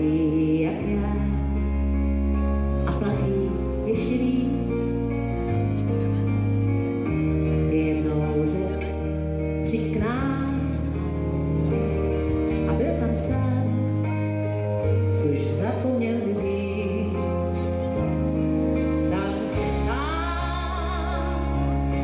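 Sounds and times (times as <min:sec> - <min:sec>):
live band music: 0:00.8 - 0:22.0.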